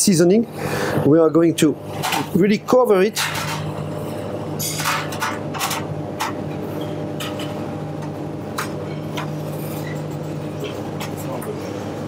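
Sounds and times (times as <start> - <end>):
kitchen machinery humming: 0.0 - 12.0.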